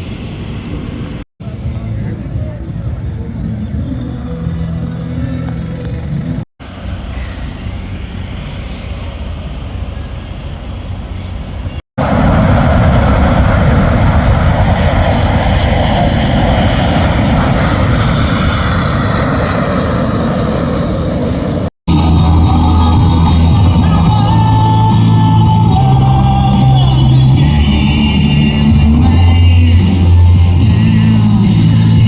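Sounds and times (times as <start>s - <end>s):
aircraft engine rushing noise: 0.0s - 32.0s.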